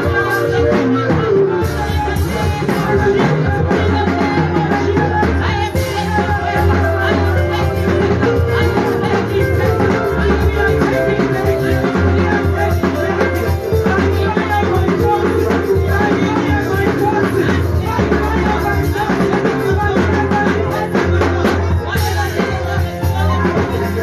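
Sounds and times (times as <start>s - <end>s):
music with drums and bass: 0.0s - 24.0s
person singing: 0.0s - 24.0s.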